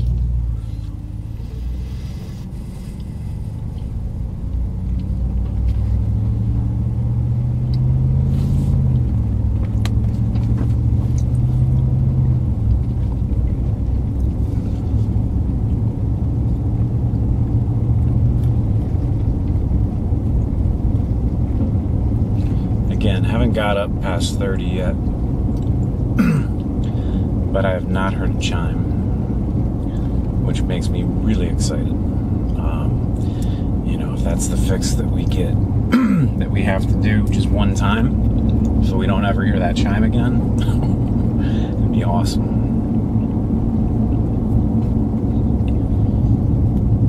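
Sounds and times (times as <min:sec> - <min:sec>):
road noise: 0:00.0 - 0:47.0
truck engine accelerating: 0:00.0 - 0:47.0.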